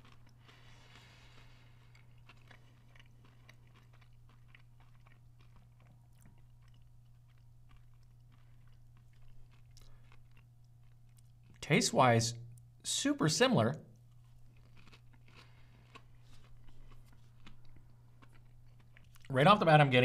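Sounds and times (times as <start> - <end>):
crunchy chewing: 0.0 - 11.6, 14.0 - 19.3
low electrical hum: 0.0 - 20.0.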